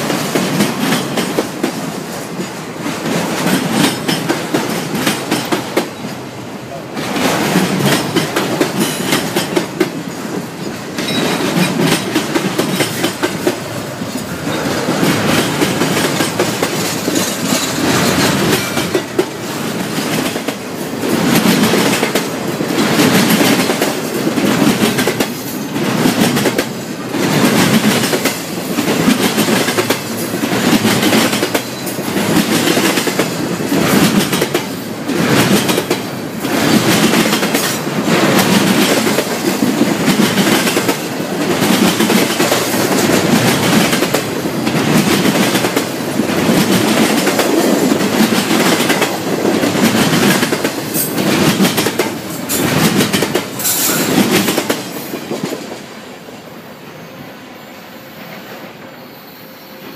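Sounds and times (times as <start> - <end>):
train wheels clacking: 0.0 - 55.9.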